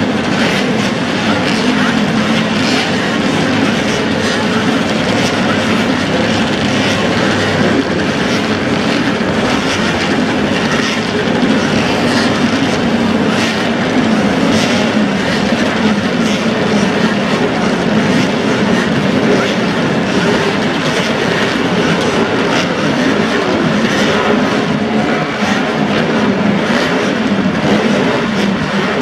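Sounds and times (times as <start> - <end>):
racing motorcycle engines droning: 0.0 - 29.0.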